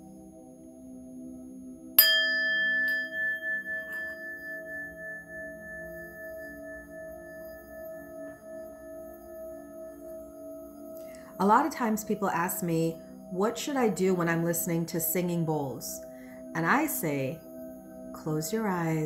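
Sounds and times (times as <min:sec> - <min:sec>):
low steady tones: 0:00.0 - 0:19.0
singing bowl ringing: 0:01.2 - 0:19.0.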